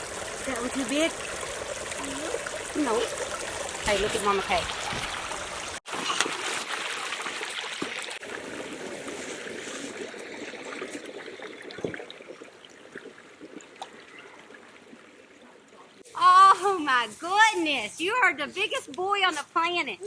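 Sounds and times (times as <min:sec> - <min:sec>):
water running over rocks: 0:00.0 - 0:19.9.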